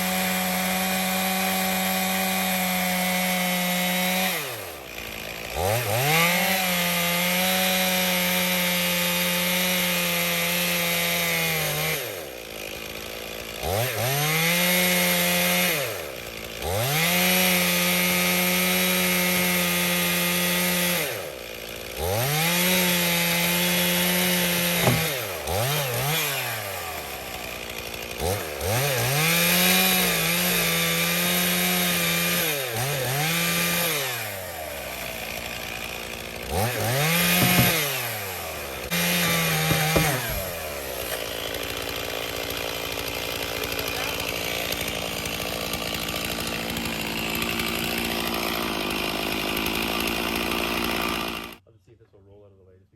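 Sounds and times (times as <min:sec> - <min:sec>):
chainsaw cutting wood: 0:00.0 - 0:51.6.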